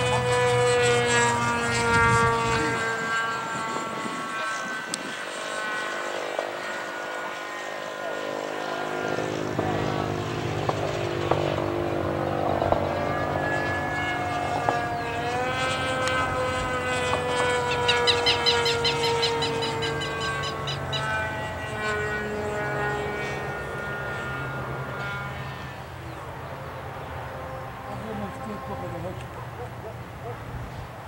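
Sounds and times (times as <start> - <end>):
model airplane engine droning: 0.0 - 31.0.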